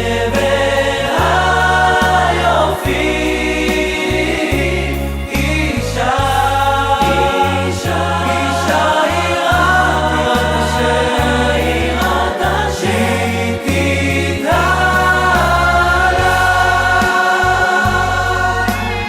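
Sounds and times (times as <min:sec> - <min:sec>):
band with pulsing bass: 0:00.0 - 0:19.0
choir singing worship song: 0:00.0 - 0:19.0.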